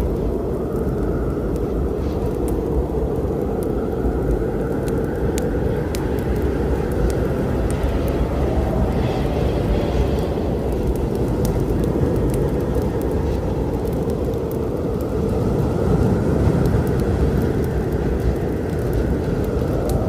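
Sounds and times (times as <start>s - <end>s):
faint wind howl: 0.0s - 20.0s
low storm rumble: 0.0s - 20.0s
wood fire crackling: 0.0s - 20.0s.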